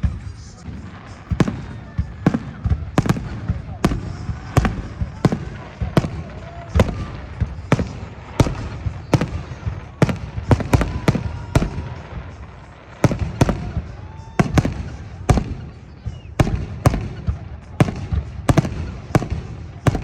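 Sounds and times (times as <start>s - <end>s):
firework shells bursting: 0.7s - 20.0s.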